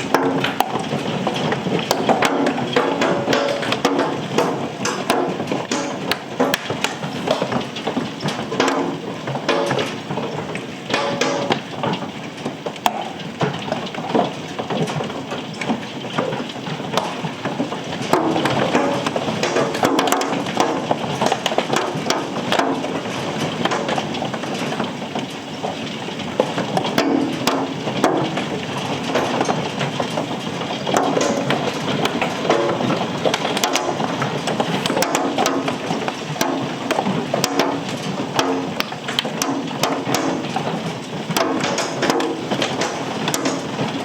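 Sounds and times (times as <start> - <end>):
hailstones clattering: 0.0 - 44.0.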